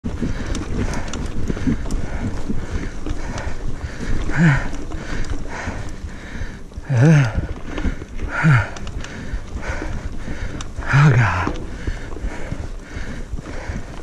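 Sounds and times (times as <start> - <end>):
bike rattling over ground: 0.0 - 14.0
person breathing hard: 0.0 - 14.0
wind buffeting microphone: 0.0 - 14.0.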